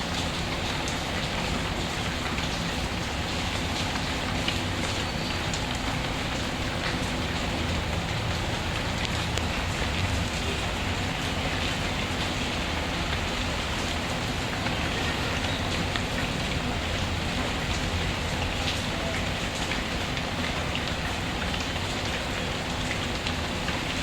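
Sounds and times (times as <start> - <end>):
steady rainfall: 0.0 - 24.0.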